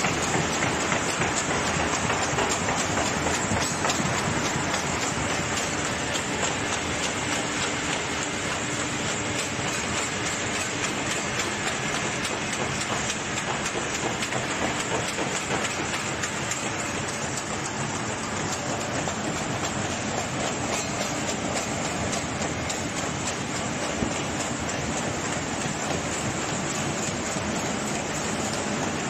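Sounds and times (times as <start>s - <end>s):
machine clattering with rapid clicks: 0.0s - 29.0s.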